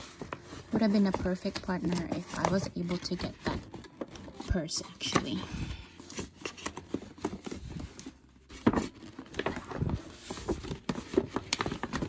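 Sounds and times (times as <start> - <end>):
paper gift bag rustling: 0.0 - 12.0.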